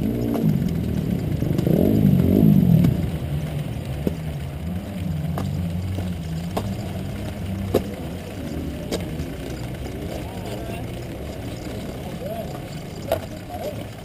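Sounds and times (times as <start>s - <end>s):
two-stroke motorcycle engine running: 0.0s - 14.0s.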